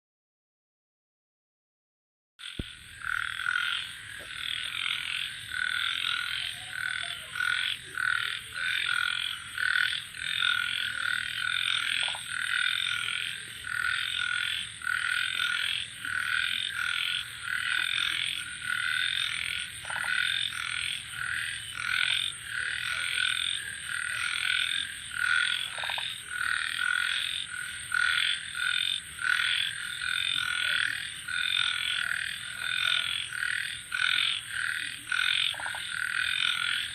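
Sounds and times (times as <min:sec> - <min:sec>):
frogs croaking: 0:02.4 - 0:36.9.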